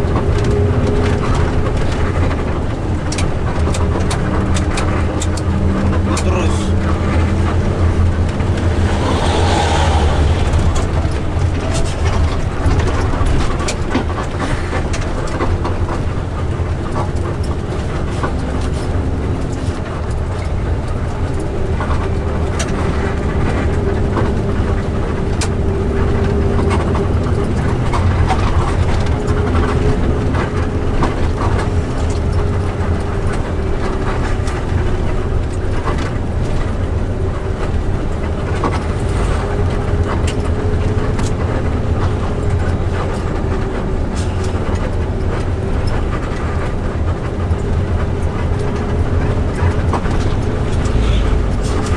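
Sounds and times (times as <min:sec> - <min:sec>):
bus engine and road rumble: 0:00.0 - 0:51.9.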